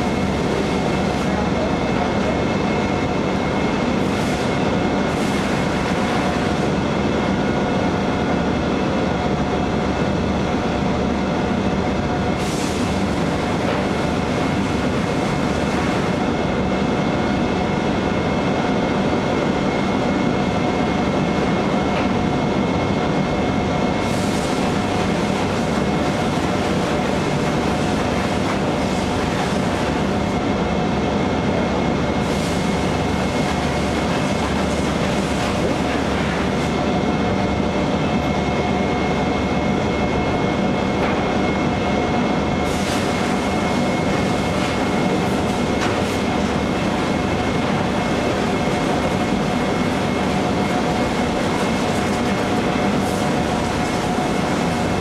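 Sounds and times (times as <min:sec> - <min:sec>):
factory machinery noise: 0:00.0 - 0:55.0.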